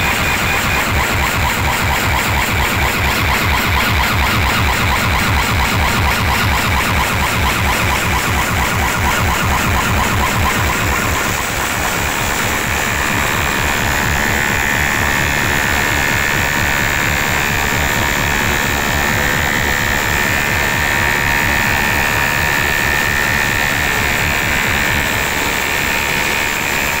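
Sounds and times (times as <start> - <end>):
shrill steady high tone: 0.0 - 24.5
loud overdriven music: 0.0 - 26.4
pounding bass: 0.0 - 27.0.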